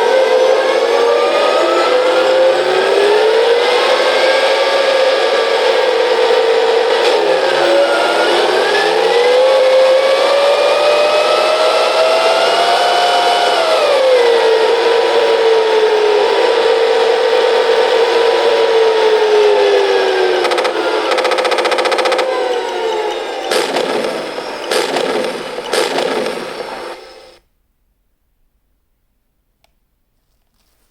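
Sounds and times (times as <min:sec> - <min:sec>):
turbine engine whine: 0:00.0 - 0:27.4.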